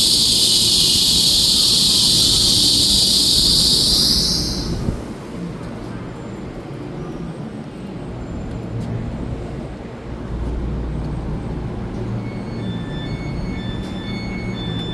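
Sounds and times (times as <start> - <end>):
electric train low rumble: 0.0 - 14.9.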